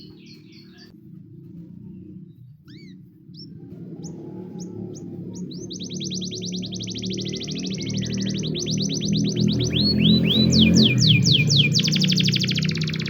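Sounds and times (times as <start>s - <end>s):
canary singing: 0.0s - 1.2s, 1.9s - 13.0s.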